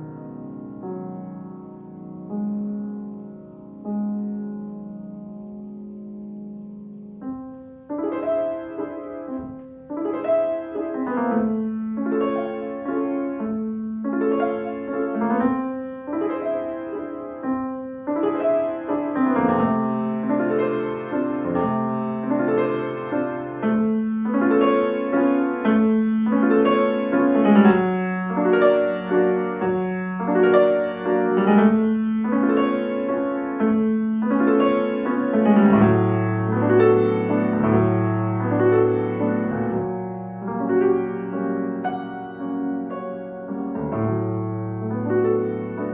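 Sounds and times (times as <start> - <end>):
solo piano piece: 0.0 - 45.9.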